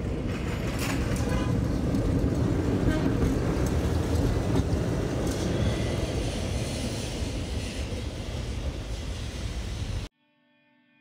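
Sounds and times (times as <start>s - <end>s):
street traffic rumble: 0.0s - 10.1s
tram passing: 0.0s - 10.1s.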